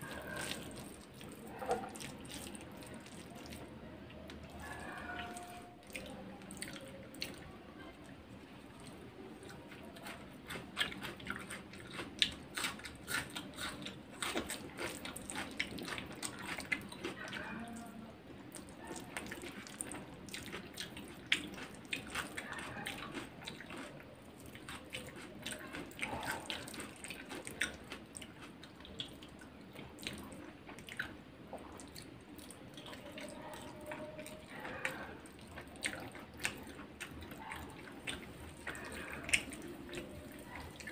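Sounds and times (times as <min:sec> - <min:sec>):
chewing: 0:00.0 - 0:40.9.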